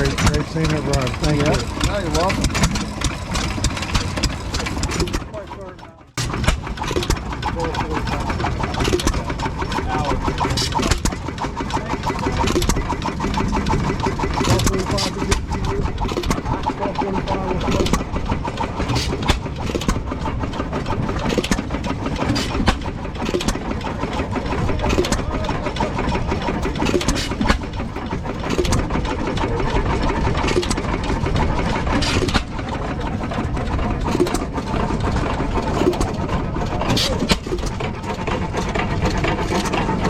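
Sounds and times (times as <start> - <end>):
engines rumbling with sharp pops: 0.0 - 40.0.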